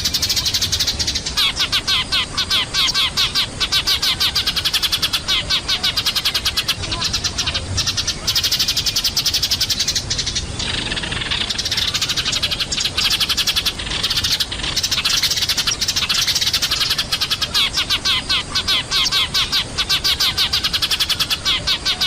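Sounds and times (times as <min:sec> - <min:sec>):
flock of sparrows chirping: 0:00.0 - 0:22.0.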